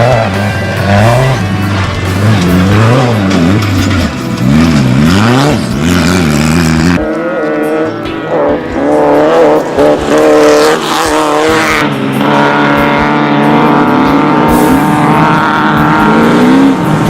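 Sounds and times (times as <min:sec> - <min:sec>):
race vehicle engines revving: 0:00.0 - 0:17.0.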